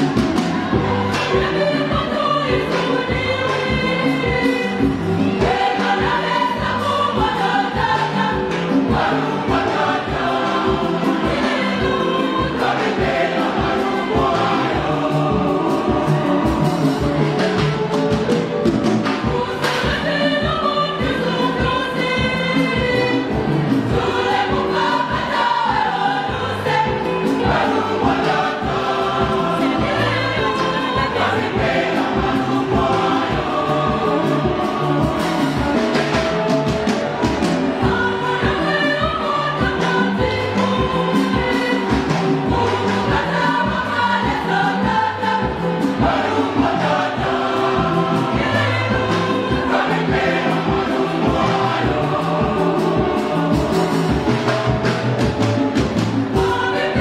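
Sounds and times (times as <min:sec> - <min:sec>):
choir singing gospel song: 0:00.0 - 0:57.0.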